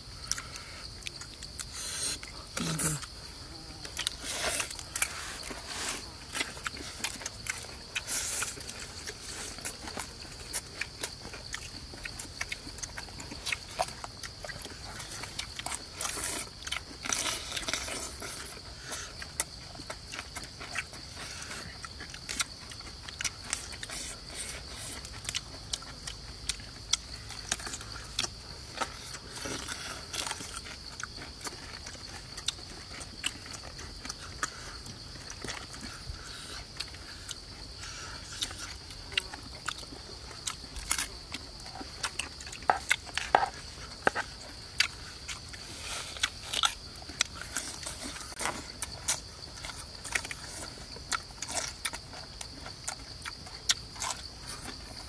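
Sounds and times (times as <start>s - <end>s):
crunchy bites and chewing: 0.0s - 55.0s.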